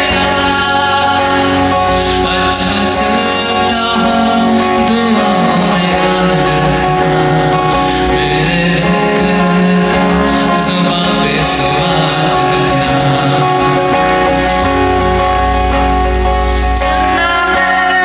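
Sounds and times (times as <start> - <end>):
man singing: 0.0 - 15.8, 16.5 - 18.0
electric guitar: 0.0 - 18.0.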